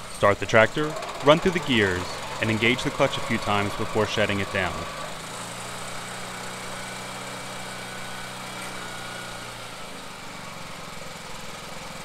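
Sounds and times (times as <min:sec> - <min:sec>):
small petrol engine idling: 0:00.0 - 0:12.0.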